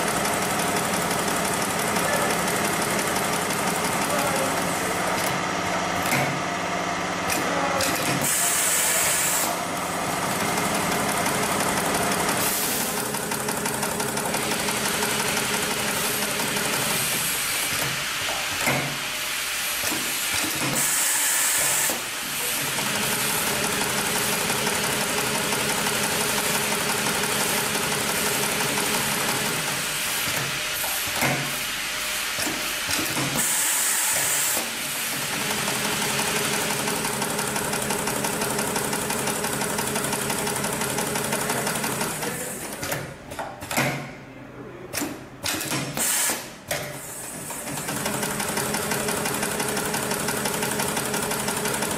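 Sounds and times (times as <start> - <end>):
industrial sewing machine running: 0.0 - 43.1, 45.4 - 51.9.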